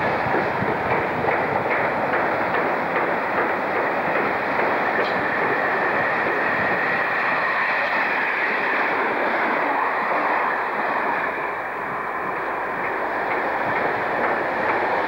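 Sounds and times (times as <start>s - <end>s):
train wheels rushing on rail: 0.0s - 15.0s.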